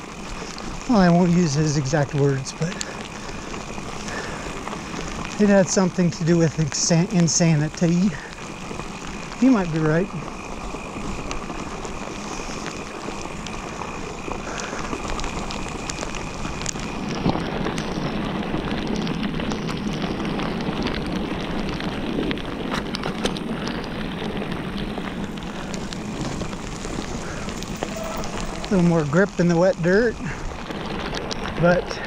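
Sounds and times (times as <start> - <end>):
bike clicks and rattles: 0.0 - 32.0
bike tyres on wet dirt: 0.0 - 32.0
rain: 0.0 - 32.0.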